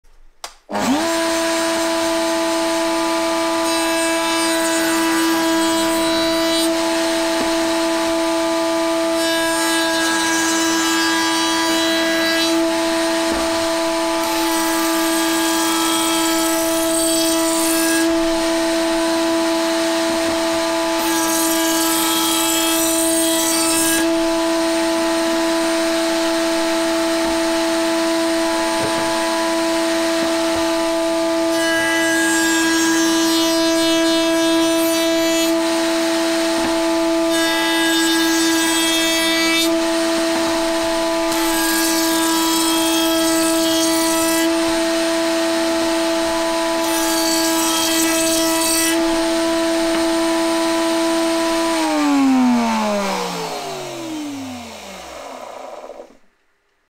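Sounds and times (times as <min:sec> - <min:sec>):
router cutting wood rasp: 0:00.4 - 0:56.4
router motor whine: 0:00.7 - 0:56.5.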